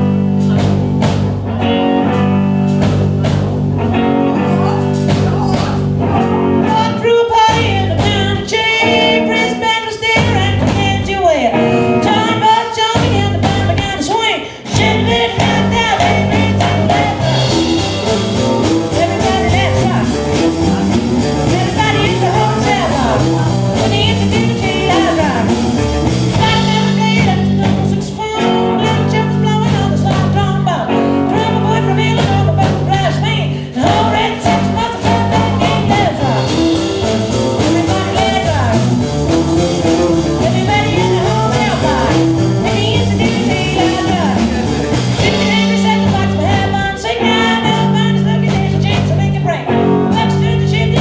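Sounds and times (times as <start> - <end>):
live blues-rock band: 0.0 - 51.0
person singing: 0.0 - 51.0.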